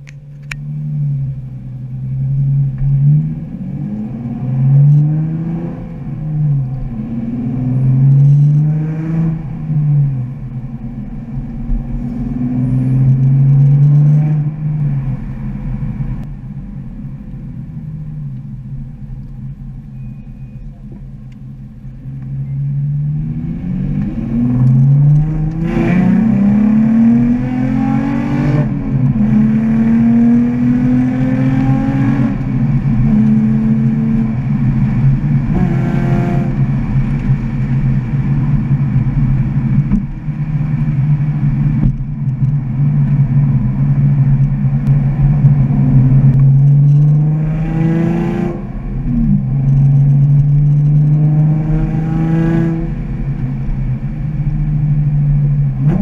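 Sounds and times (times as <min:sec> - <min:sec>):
car engine accelerating through gears: 0:00.0 - 0:16.5, 0:17.2 - 0:56.0.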